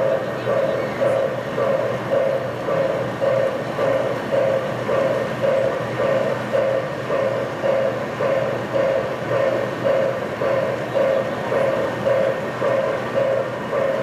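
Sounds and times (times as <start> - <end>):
pulsing motor hum: 0.0 - 14.0.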